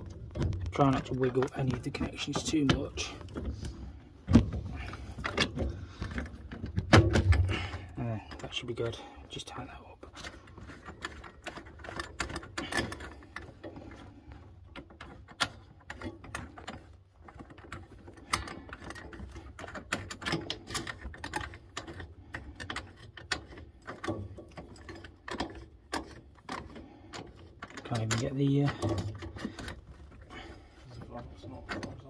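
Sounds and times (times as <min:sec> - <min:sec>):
clicks and knocks handling valve: 0:00.0 - 0:09.0, 0:10.1 - 0:32.0.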